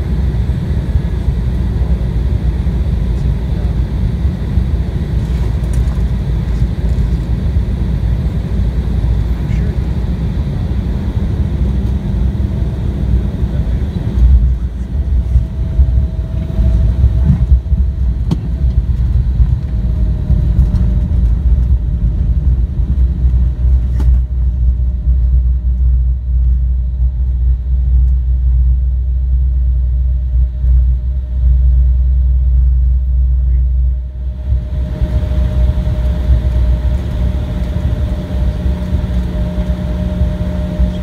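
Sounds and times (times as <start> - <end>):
faint steady whine: 0.0 - 41.0
jet cabin low rumble: 0.0 - 41.0.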